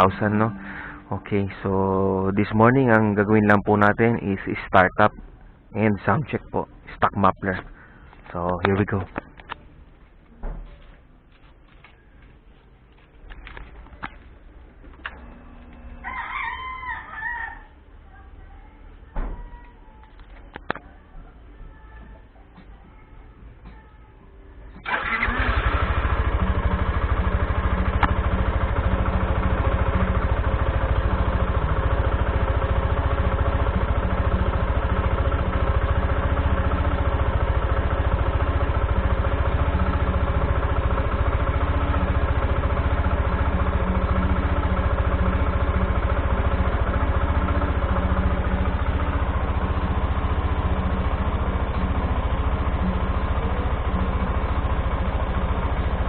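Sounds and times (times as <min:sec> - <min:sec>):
motorcycle engine idling: 0:00.0 - 0:16.5, 0:24.8 - 0:56.0.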